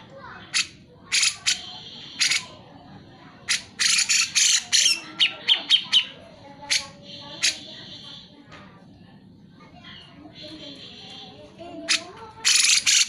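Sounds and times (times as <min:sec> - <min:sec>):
bird harsh chatter and sharp notes: 0:00.2 - 0:02.7, 0:03.4 - 0:08.4, 0:09.8 - 0:13.0.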